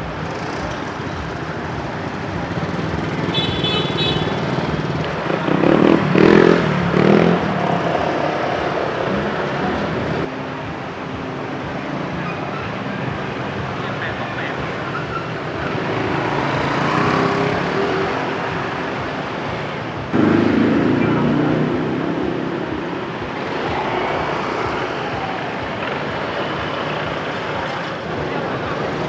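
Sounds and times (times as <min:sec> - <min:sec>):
motorbike engines passing: 0:00.0 - 0:29.0.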